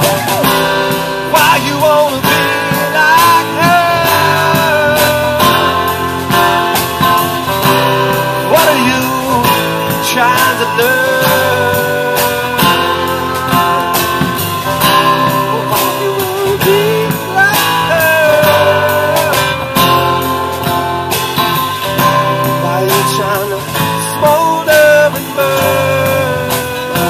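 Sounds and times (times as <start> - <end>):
drum kit with cymbal hits: 0.0 - 27.0
guitar lead line bending: 0.0 - 27.0
live band playing: 0.0 - 27.0.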